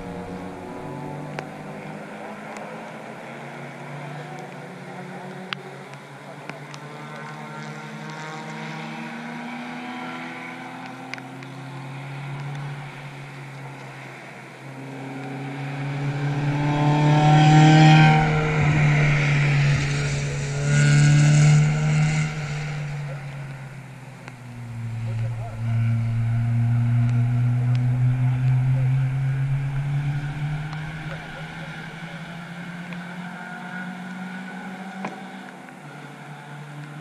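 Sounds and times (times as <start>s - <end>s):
distant racing car engines: 0.0s - 37.0s
racing car engines passing: 0.0s - 37.0s.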